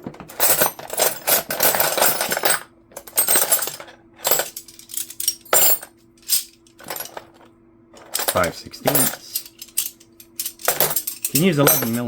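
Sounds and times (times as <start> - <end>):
metal wrenches clinking: 0.2 - 7.3, 8.0 - 12.0.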